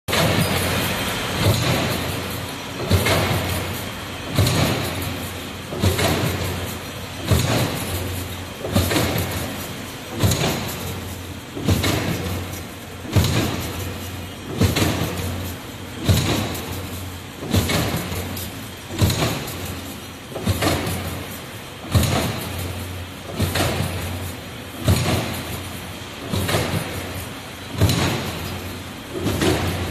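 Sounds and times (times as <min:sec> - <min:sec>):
sharp machine knock: 0:00.1 - 0:29.9
wire mesh weaving machine running: 0:00.1 - 0:29.9.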